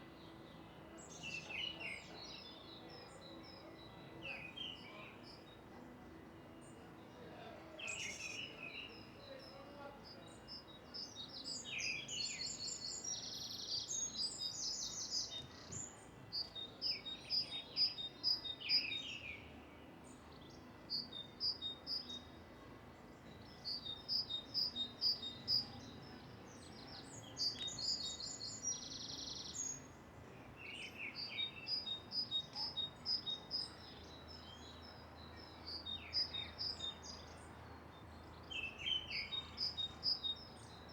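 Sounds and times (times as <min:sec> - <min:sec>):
faint outdoor noise: 0:00.0 - 0:40.9
songbirds chirping: 0:00.0 - 0:40.9.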